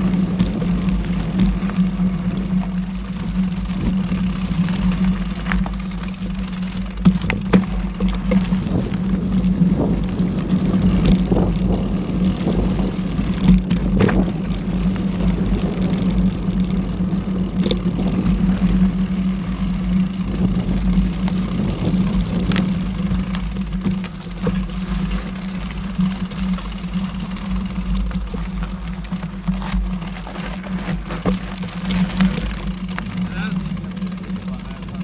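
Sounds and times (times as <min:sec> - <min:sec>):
bike rattles and clicks: 0:00.0 - 0:35.0
mountain bike riding hum: 0:00.0 - 0:35.0.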